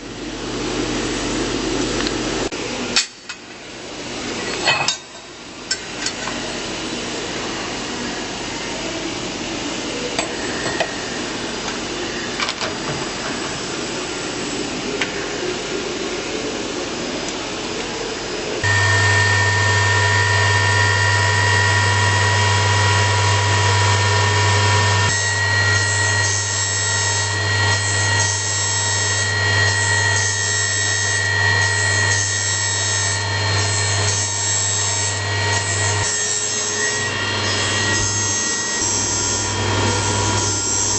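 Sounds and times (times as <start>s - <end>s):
grinding wheel motor hum and whine: 0.0s - 2.9s, 3.6s - 40.9s.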